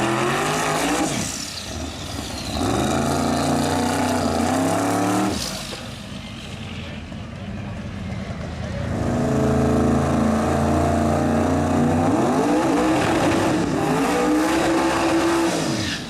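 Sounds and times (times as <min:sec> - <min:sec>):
race car engine at full throttle: 0:00.0 - 0:16.0.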